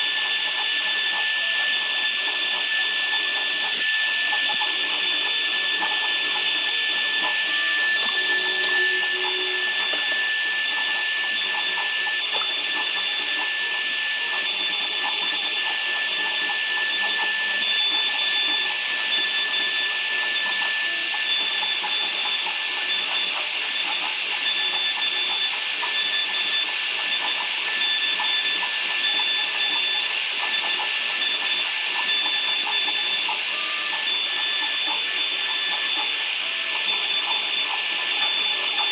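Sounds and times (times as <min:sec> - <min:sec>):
woodworking power tool whining: 0:00.0 - 0:38.9.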